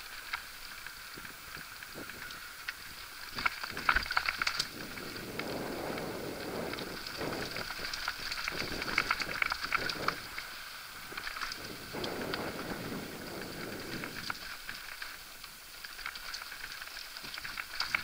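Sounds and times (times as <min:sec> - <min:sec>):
bike rattling clicks: 0:00.0 - 0:18.0
bike tyres crunching on gravel: 0:00.0 - 0:18.0.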